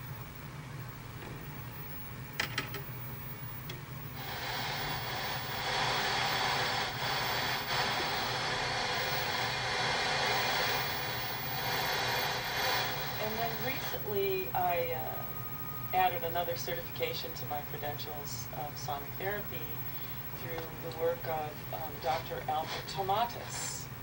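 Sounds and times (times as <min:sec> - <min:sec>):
tv static hiss: 0:01.6 - 0:24.0.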